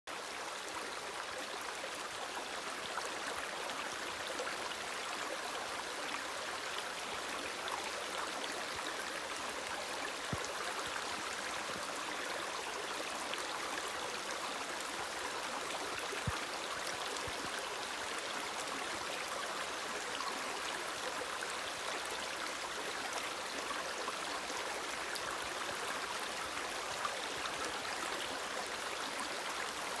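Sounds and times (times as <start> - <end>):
creek water flowing over stones: 0.1 - 30.0.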